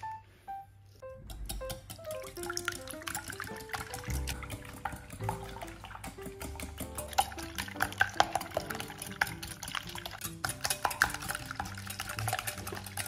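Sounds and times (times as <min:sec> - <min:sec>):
soft background music: 0:00.0 - 0:13.0
liquid egg sloshing: 0:01.2 - 0:13.0
whisk clicking against glass bowl: 0:01.3 - 0:13.0.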